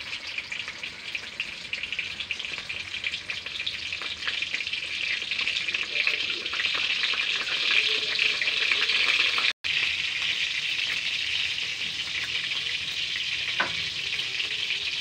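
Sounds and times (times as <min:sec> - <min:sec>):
eggplant frying in oil: 0:00.0 - 0:15.0.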